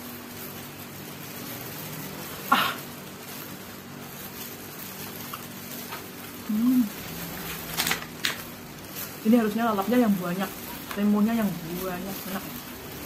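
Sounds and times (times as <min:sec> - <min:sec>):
eating with gloved hands: 0:00.0 - 0:13.0
low steady hum: 0:00.0 - 0:13.0.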